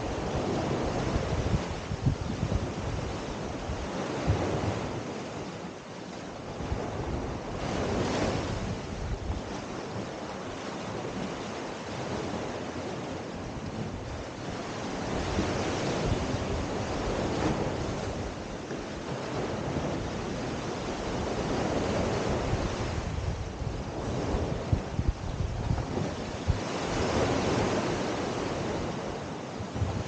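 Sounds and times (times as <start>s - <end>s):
sea waves washing on sand: 0.0s - 30.0s
wind rumbling on microphone: 0.0s - 30.0s.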